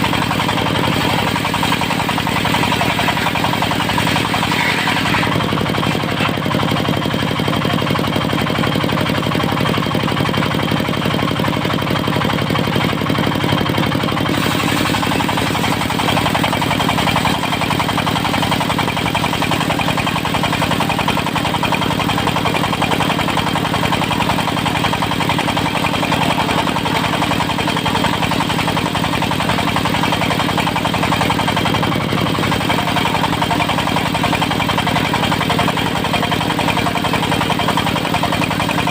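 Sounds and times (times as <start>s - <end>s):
diesel engine clattering: 0.0s - 38.9s.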